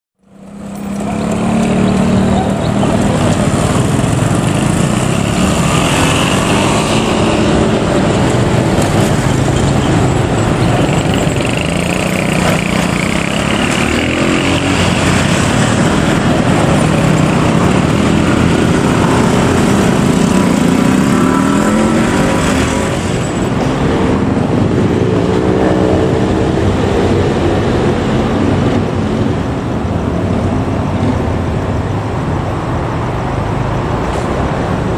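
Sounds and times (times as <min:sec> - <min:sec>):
motorbike engines accelerating: 0:00.2 - 0:34.9
traffic noise: 0:00.2 - 0:34.9.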